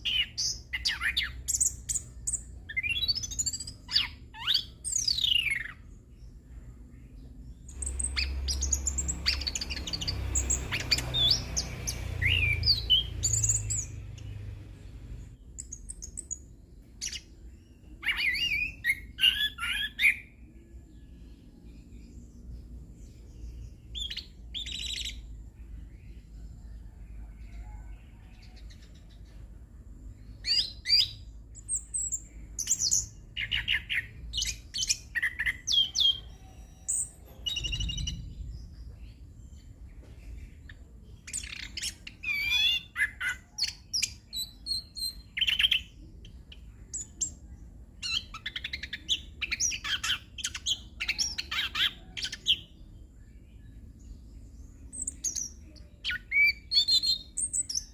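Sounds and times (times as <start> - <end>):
faint low hum: 0.0 - 57.9.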